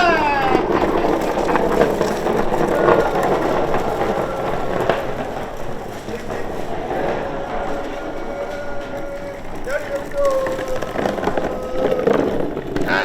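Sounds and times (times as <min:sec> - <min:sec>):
wooden cart rolling over ground: 0:00.0 - 0:13.0.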